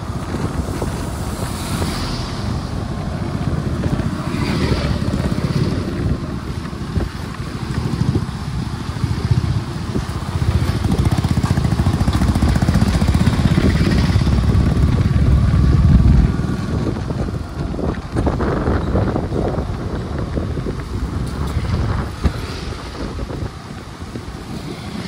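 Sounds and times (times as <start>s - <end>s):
wind buffeting microphone: 0.0s - 25.0s
motorbike engine running: 3.5s - 24.4s.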